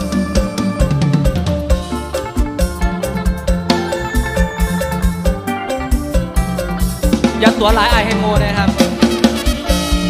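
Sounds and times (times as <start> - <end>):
live band held melodic notes: 0.0 - 10.0
steady drum beat: 0.0 - 10.0.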